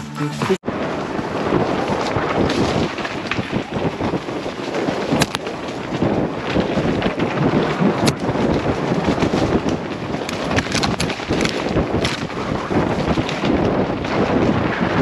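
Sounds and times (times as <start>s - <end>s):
wind on microphone: 0.5s - 15.0s
bike rattling: 0.6s - 15.0s
bike tyres on dirt: 0.6s - 15.0s.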